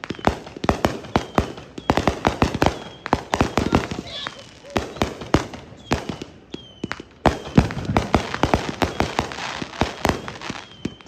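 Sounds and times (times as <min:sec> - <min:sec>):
firework whistles: 0:00.0 - 0:11.0
fireworks banging: 0:00.0 - 0:11.0.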